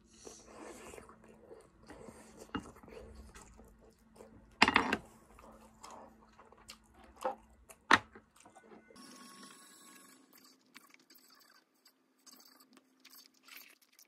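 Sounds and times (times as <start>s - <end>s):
person chewing: 0.2s - 7.9s, 10.2s - 14.0s.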